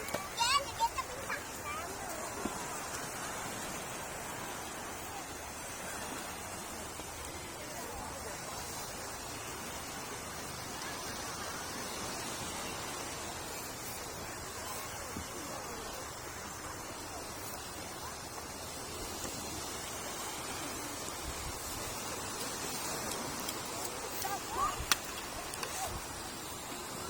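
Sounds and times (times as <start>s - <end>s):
sea surf: 0.0s - 27.0s
wind: 0.0s - 27.0s.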